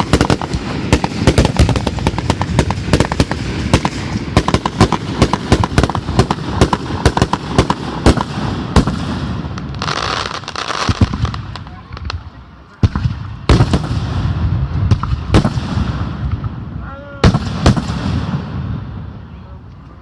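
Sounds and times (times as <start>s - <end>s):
firework hiss: 0.0s - 18.8s
fireworks bangs and crackles: 0.0s - 20.0s.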